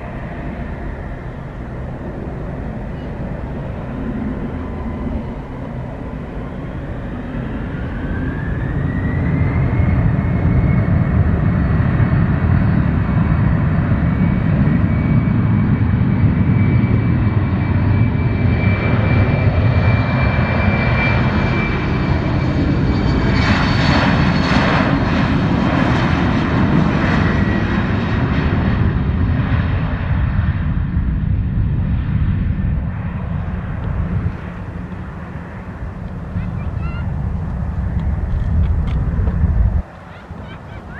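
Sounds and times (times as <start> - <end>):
heavy jet engine rumble: 0.0 - 40.9
jet engines whining: 0.0 - 40.9.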